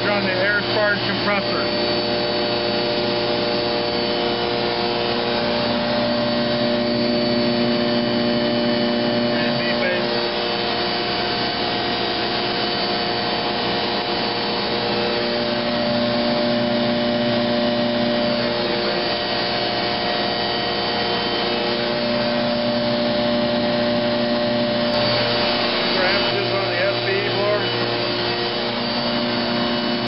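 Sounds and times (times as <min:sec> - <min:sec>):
air compressor whooshing drone: 0:00.0 - 0:30.0
blower hum: 0:00.0 - 0:30.0.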